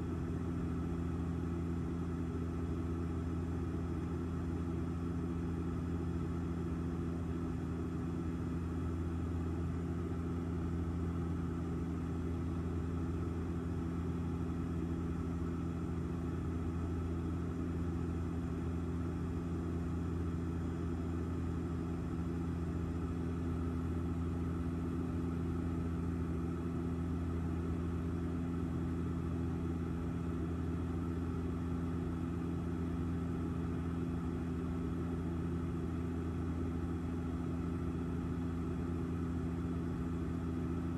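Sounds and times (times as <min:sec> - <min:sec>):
airliner engine and airflow drone: 0:00.0 - 0:40.9.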